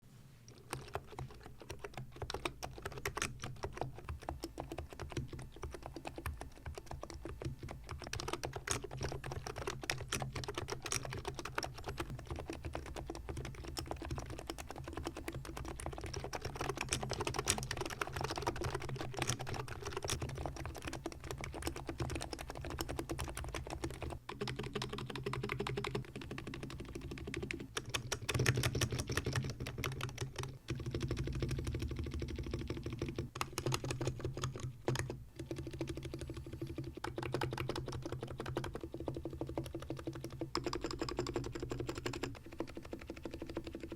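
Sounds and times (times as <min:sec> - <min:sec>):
fast keyboard typing: 0:00.5 - 0:43.9.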